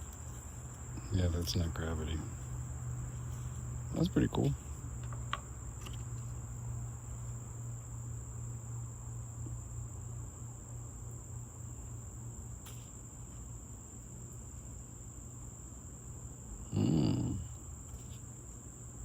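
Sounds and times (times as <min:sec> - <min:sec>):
insect trill: 0:00.0 - 0:19.0
low steady hum: 0:00.0 - 0:19.0.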